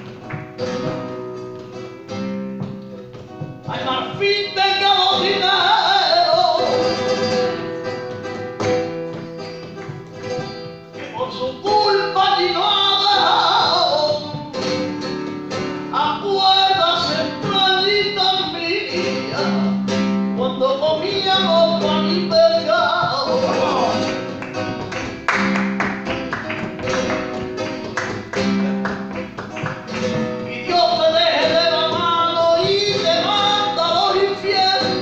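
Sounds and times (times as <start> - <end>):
flamenco guitar: 0.0 - 35.0
man singing flamenco: 0.0 - 35.0.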